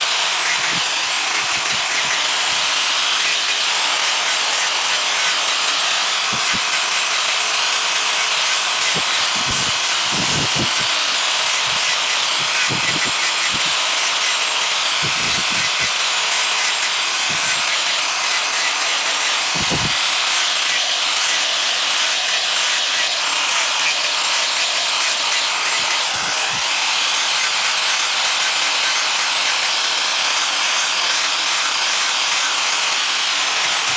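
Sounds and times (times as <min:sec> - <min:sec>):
tool rasping wood: 0:00.0 - 0:33.9.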